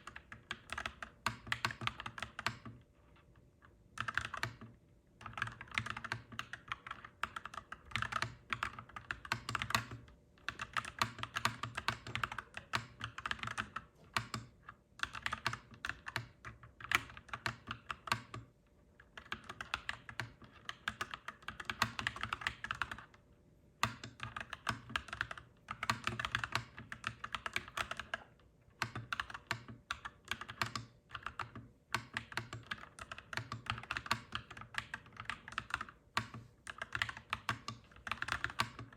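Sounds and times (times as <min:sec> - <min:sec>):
mechanical keyboard typing: 0:00.0 - 0:02.8, 0:04.0 - 0:23.2, 0:23.8 - 0:38.9.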